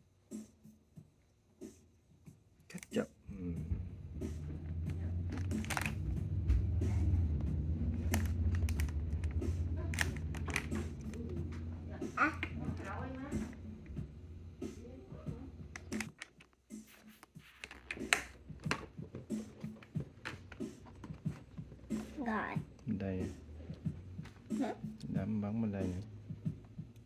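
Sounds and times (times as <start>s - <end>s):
steady low hum: 3.1s - 16.1s, 18.3s - 27.0s.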